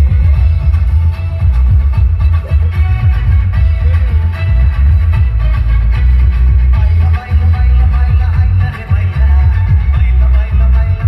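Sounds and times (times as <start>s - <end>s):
dance music with heavy bass: 0.0s - 11.0s.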